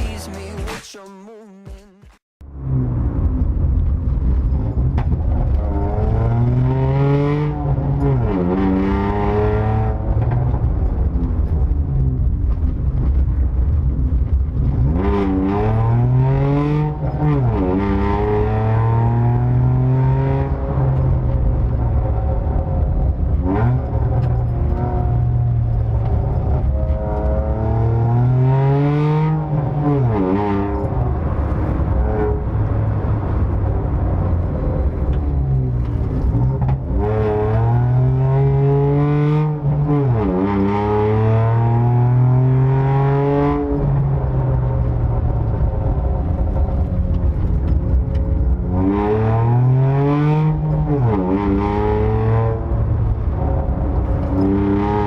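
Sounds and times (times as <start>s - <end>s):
car engine revving: 2.4s - 55.0s.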